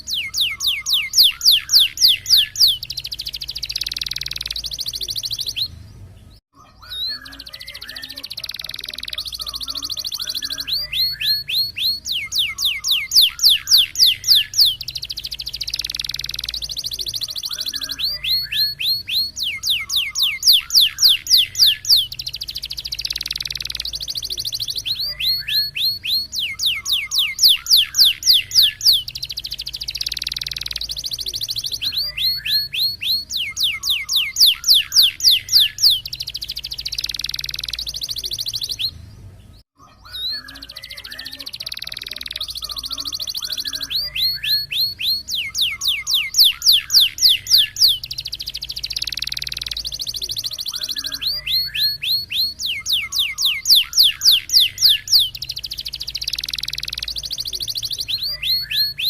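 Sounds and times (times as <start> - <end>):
canary singing: 0.0 - 59.0.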